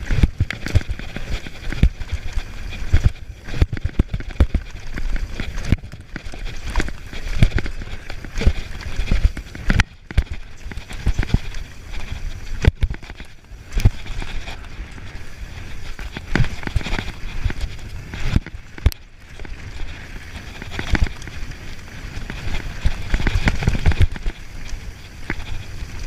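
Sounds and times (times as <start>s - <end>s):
bike knocks and rattles: 0.0s - 26.0s
tyre and wind rumble: 0.0s - 26.0s.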